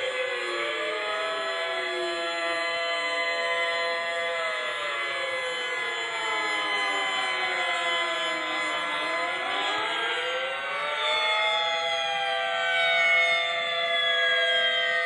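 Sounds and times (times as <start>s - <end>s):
air raid sirens wailing: 0.0s - 15.0s.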